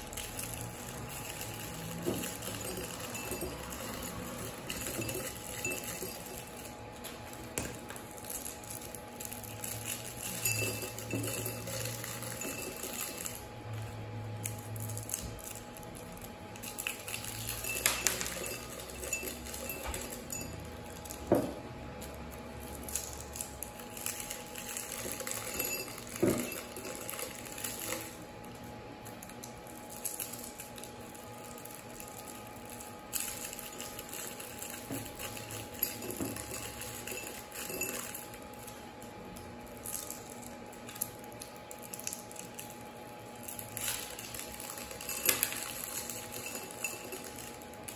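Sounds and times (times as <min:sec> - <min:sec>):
candy tablets clinking in glass: 0:00.0 - 0:47.9.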